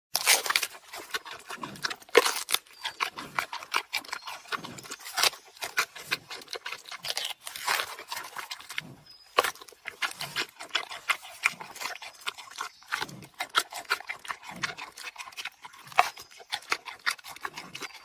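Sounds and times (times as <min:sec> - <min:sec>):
panda crunching bamboo: 0:00.1 - 0:18.0.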